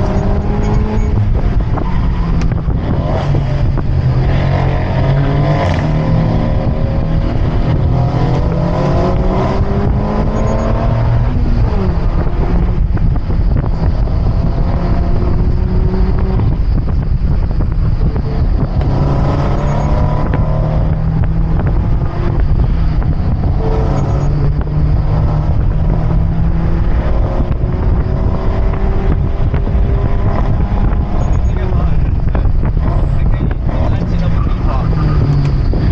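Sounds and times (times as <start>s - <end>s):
car engine accelerating: 0.0s - 35.9s
wind rumble on microphone: 0.0s - 35.9s.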